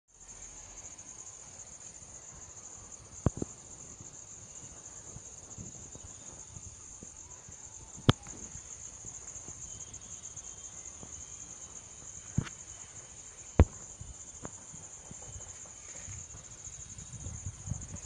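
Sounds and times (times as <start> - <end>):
insects chirring: 0.2 - 18.0.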